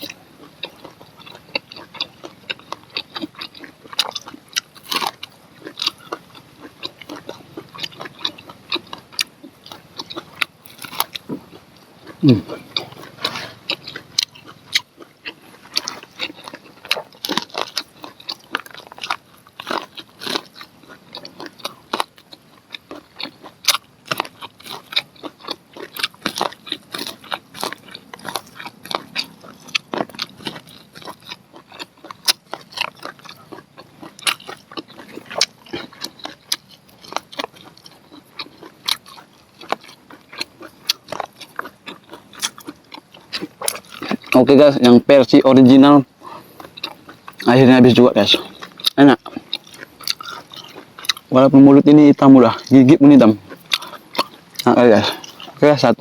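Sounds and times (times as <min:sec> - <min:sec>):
chewing corn on the cob: 0:00.0 - 0:56.0.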